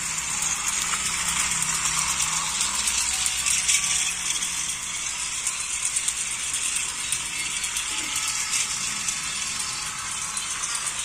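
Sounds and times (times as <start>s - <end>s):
toy trains clicking rattle: 0.0s - 11.0s.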